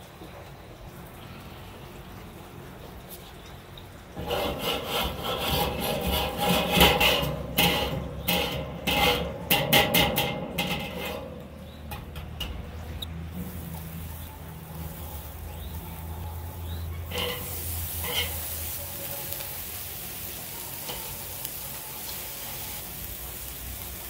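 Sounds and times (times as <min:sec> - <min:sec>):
wire brush scraping metal grate: 0:04.2 - 0:24.0.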